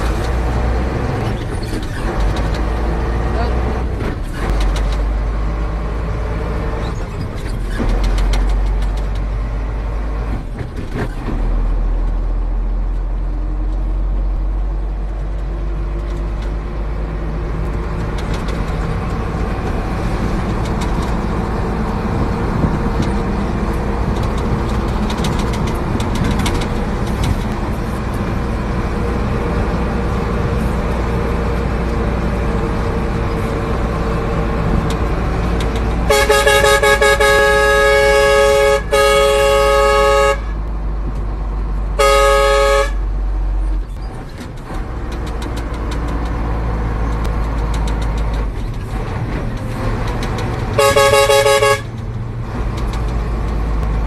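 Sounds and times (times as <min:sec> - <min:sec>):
road noise: 0:00.0 - 0:54.0
truck engine rumbling: 0:00.0 - 0:54.0.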